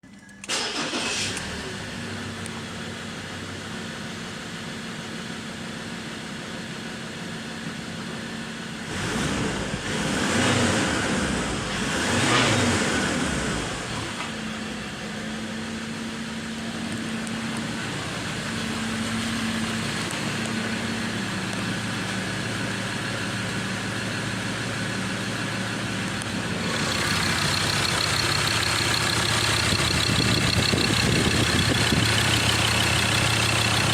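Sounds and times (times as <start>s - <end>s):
pickup truck engine idling and revving: 0.5s - 33.9s.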